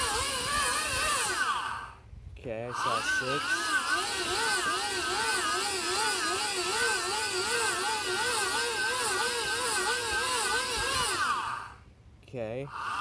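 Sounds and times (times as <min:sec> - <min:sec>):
electric motor whining: 0:00.0 - 0:11.9, 0:12.6 - 0:13.0.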